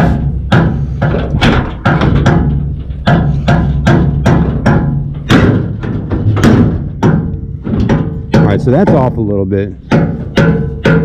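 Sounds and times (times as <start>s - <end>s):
wood-block-like percussive hits: 0.0s - 9.2s, 9.8s - 11.0s.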